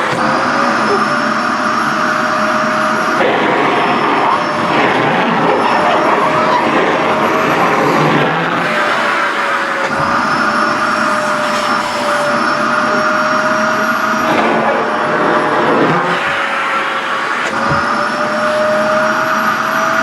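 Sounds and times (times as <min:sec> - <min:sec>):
vacuum cleaner whining: 0:00.0 - 0:20.0.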